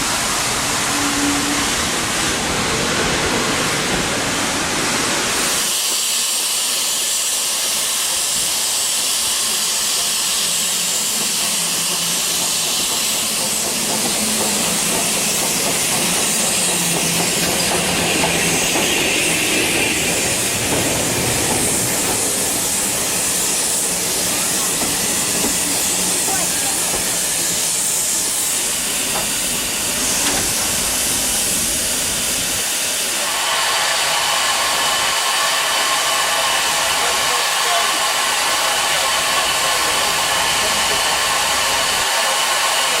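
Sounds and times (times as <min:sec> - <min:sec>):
steam locomotive hissing: 0:00.0 - 0:43.0.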